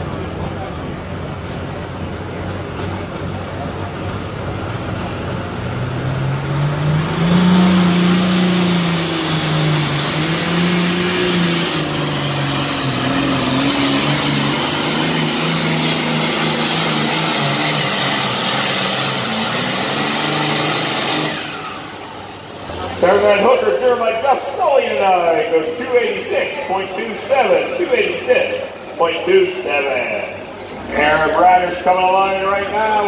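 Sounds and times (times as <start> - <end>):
tractor engine at full throttle: 0.0 - 33.0.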